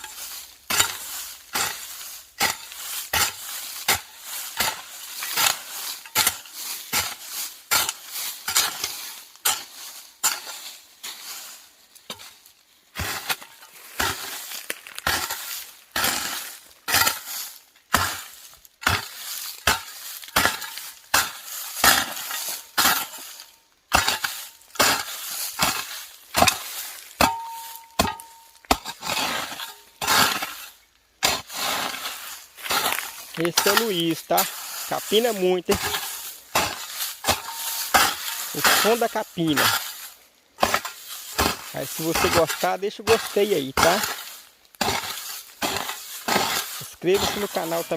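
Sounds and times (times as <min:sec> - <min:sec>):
hoe chopping and scraping soil: 0:00.0 - 0:47.9.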